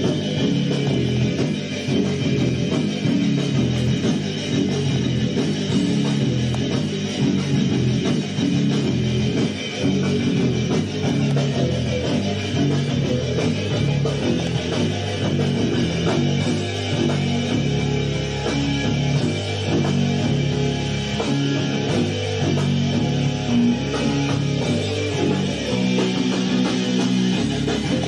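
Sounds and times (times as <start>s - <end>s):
bass guitar: 0.0s - 28.0s
drum kit: 0.0s - 28.0s
electric guitar: 0.0s - 28.0s.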